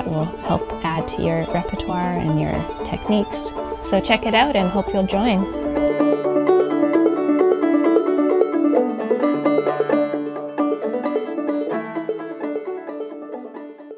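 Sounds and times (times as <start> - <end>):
banjo playing old-time tune: 0.0 - 13.9.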